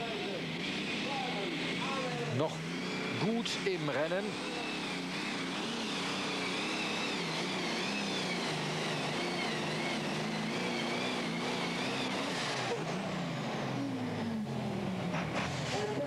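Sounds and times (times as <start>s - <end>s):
high engine whine: 0.0s - 16.0s.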